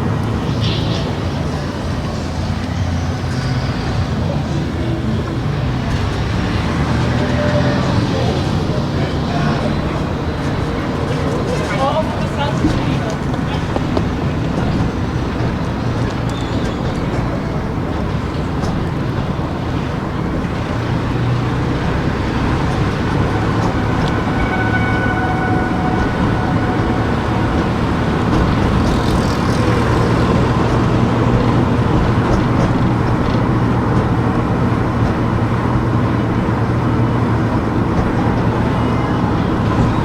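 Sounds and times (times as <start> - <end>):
car engine and tyre noise: 0.0 - 40.0.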